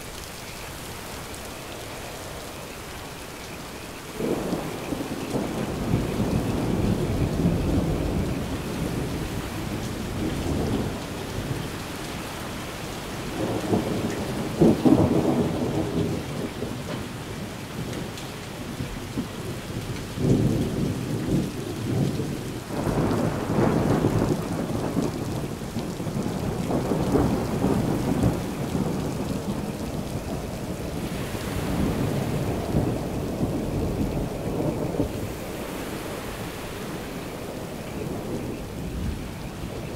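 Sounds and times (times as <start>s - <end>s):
rain falling: 0.0s - 39.9s
thunder rolling: 4.1s - 11.9s, 13.2s - 39.9s.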